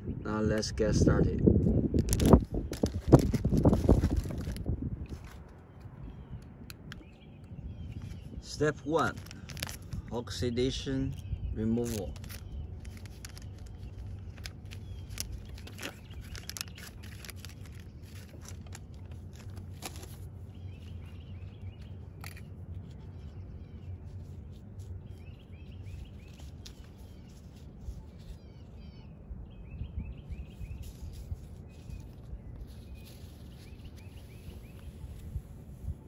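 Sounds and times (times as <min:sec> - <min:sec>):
small birds chirping: 0:00.0 - 0:36.0
steady low rumble: 0:00.0 - 0:36.0.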